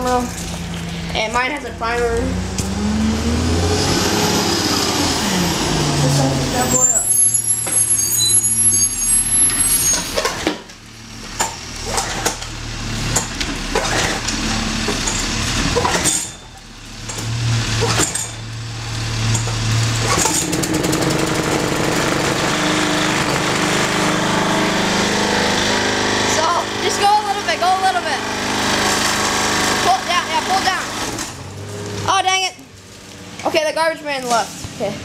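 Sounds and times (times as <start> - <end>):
garbage truck engine: 0.0 - 35.0
lawn mower engine running: 0.0 - 35.0.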